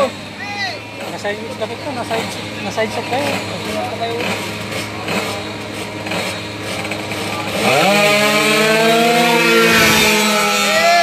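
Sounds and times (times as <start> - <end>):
scooter engines revving: 0.0 - 11.0.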